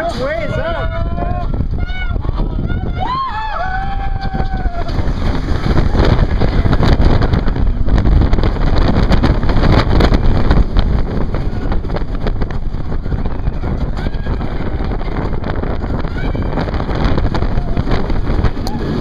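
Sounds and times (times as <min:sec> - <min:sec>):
roller coaster train rumbling: 0:00.0 - 0:19.0
wind buffeting microphone: 0:00.0 - 0:19.0.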